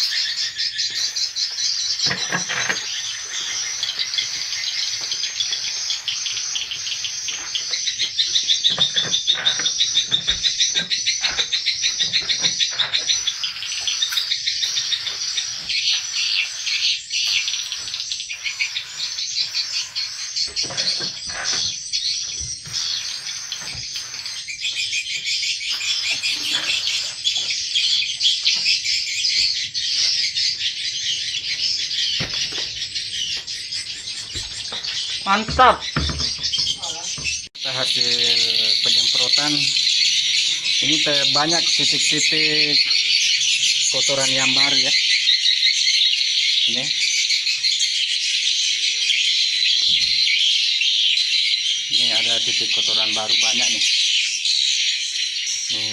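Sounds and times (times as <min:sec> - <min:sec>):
swiftlets twittering: 0:00.0 - 0:45.7, 0:51.8 - 0:54.1.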